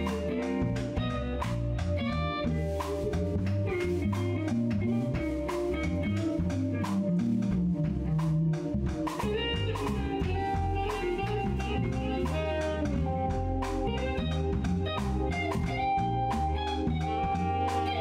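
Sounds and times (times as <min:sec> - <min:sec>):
drum kit beat: 0:00.0 - 0:18.0
electric bass: 0:00.0 - 0:18.0
electric guitar: 0:00.0 - 0:18.0
sustained keyboard tones: 0:00.0 - 0:18.0.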